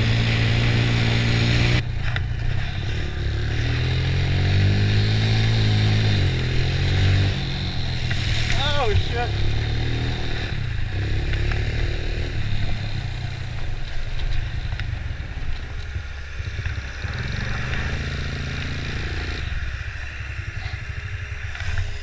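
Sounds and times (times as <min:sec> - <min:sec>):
quad engine revving: 0:00.0 - 0:22.0.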